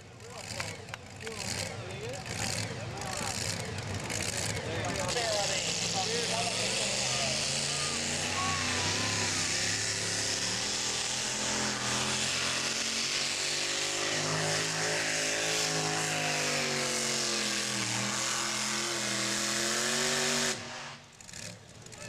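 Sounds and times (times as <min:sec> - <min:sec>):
truck engine running hard: 0:00.0 - 0:22.0.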